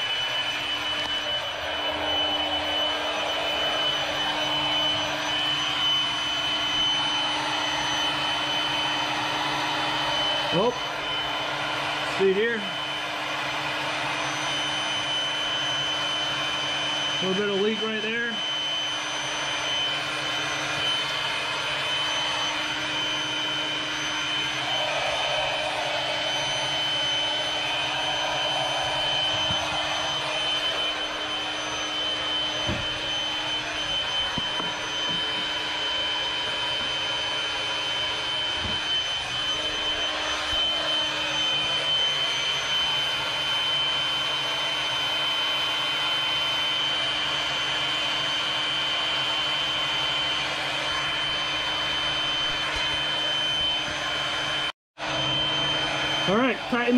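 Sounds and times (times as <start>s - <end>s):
thin high whine: 0.0s - 56.9s.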